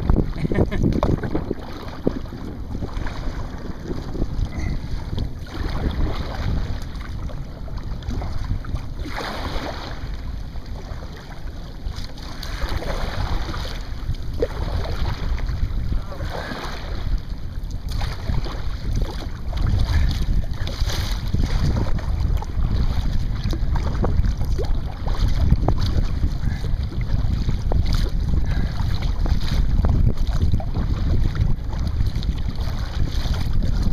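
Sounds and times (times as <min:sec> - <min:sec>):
water splashing against kayak: 0:00.0 - 0:33.9
wind buffeting microphone: 0:00.0 - 0:33.9.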